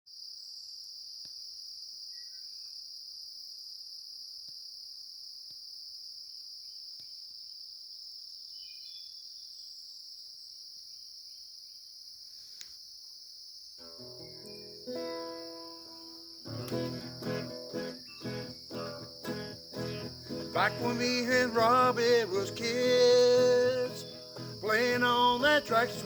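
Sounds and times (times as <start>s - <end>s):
crickets trilling: 0.1s - 26.0s.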